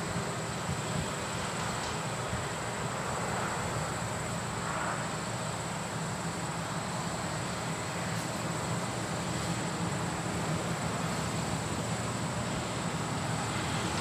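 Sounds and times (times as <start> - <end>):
combine harvester drone: 0.0 - 14.0.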